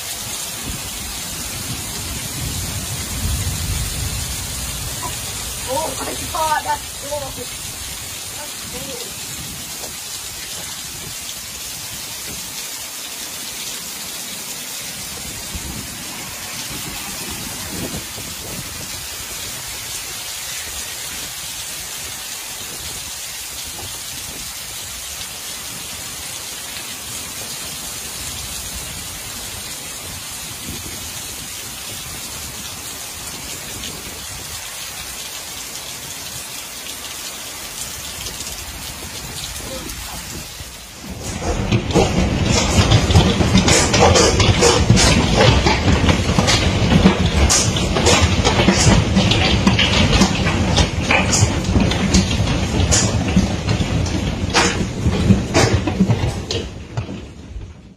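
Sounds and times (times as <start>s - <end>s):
hail and heavy rain: 0.0s - 57.9s.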